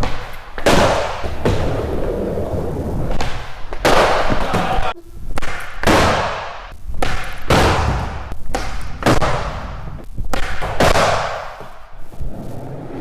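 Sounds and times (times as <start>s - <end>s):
skateboard slamming on concrete: 0.0s - 13.0s
skateboard wheels rolling: 0.0s - 13.0s.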